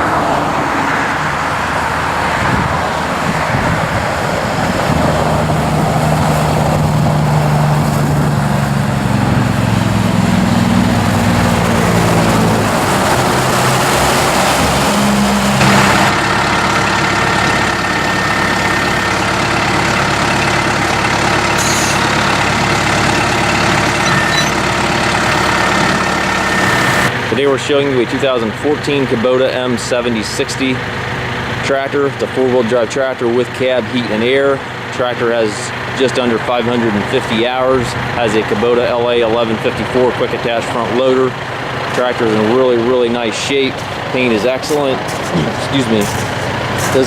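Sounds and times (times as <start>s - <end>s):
diesel tractor engine running: 0.0s - 47.0s.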